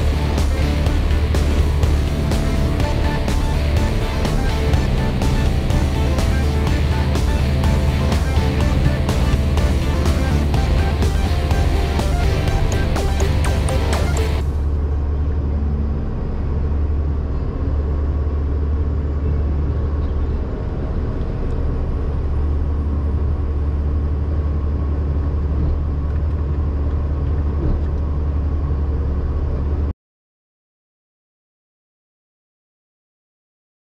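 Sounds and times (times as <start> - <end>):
diesel engine low rumble: 0.0 - 29.9.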